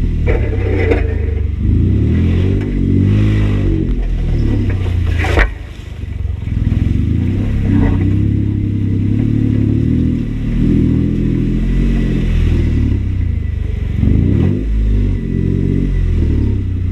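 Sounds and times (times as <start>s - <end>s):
engine revving: 0.0s - 16.9s.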